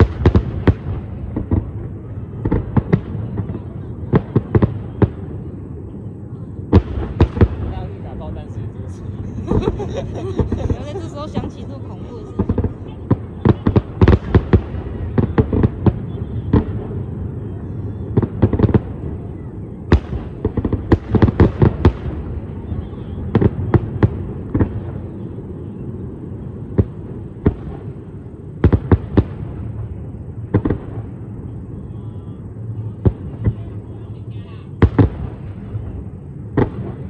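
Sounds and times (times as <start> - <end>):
fireworks bursting with bangs: 0.0 - 37.0.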